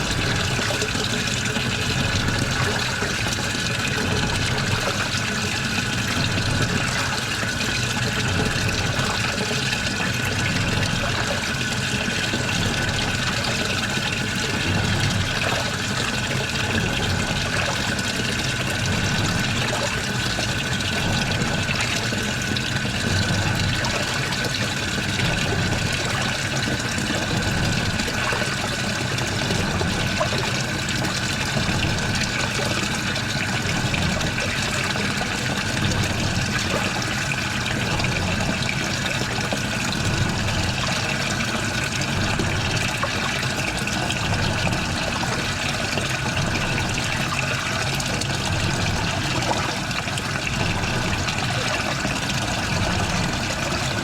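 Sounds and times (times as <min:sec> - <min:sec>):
washing machine hum: 0:00.0 - 0:54.0
water splashing in washing machine: 0:00.0 - 0:54.0.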